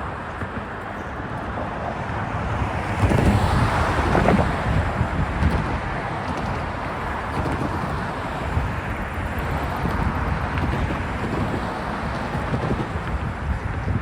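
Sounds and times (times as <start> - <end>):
freight cars rumbling on rails: 0.0 - 14.0
wind buffeting microphone: 0.0 - 14.0.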